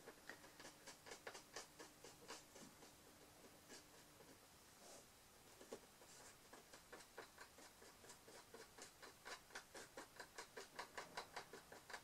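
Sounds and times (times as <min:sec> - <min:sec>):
wooden sticks tapping and ticking: 0:00.0 - 0:04.4, 0:05.6 - 0:12.0.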